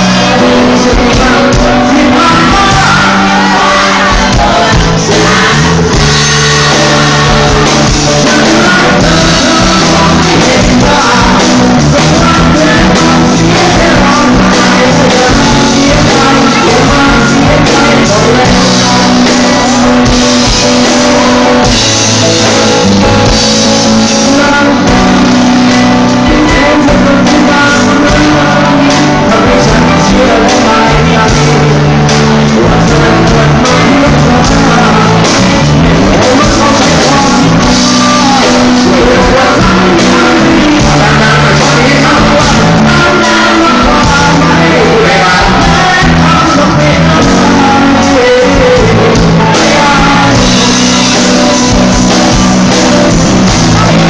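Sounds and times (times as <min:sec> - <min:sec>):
loud rock music with singing: 0:00.0 - 0:54.0.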